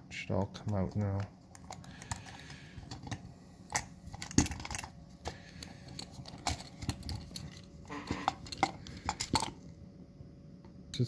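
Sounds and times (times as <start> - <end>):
plastic and metal parts clicking: 0.4 - 9.6.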